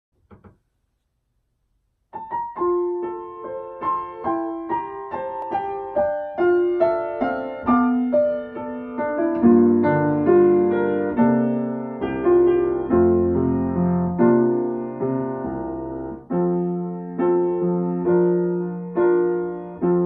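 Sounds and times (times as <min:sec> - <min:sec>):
grand piano melody: 0:02.1 - 0:20.0.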